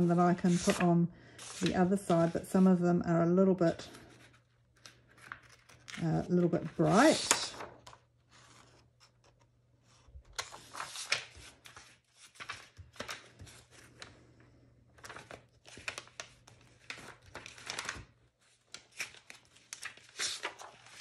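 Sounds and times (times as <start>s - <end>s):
paper sheets rustling: 0.0s - 2.8s, 3.7s - 14.2s, 15.0s - 21.0s.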